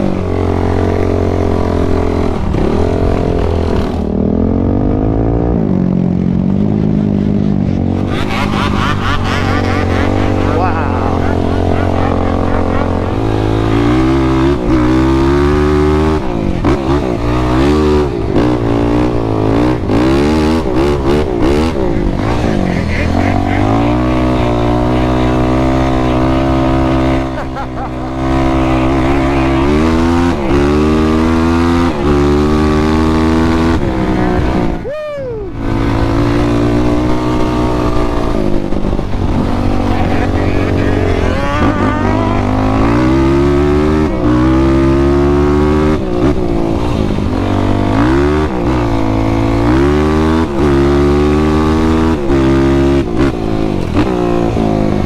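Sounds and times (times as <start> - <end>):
atv engine revving hard: 0.0 - 55.0.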